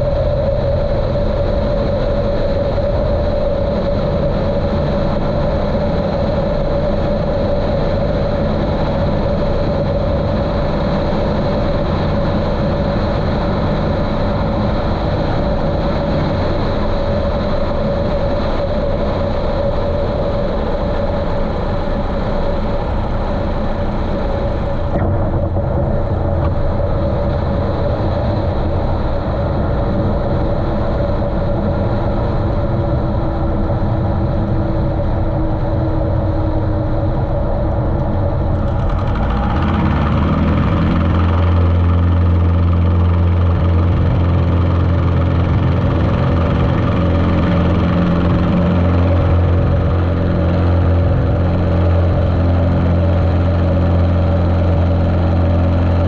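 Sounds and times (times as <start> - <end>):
small plane engine running: 0.0 - 56.0.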